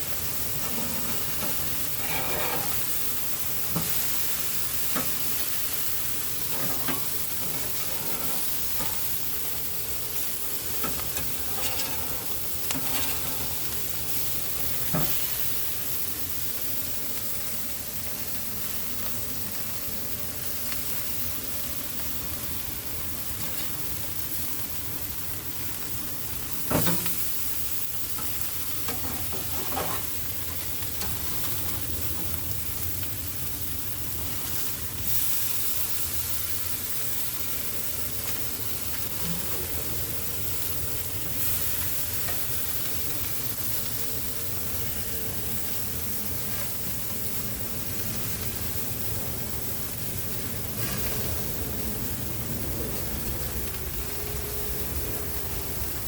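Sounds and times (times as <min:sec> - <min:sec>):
food sizzling on a grill: 0:00.0 - 0:56.0.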